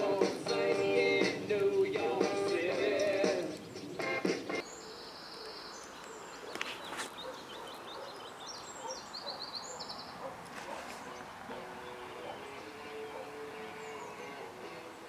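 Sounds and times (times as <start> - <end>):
faint outdoor hiss: 0.0 - 15.0
small birds chirping: 0.0 - 15.0.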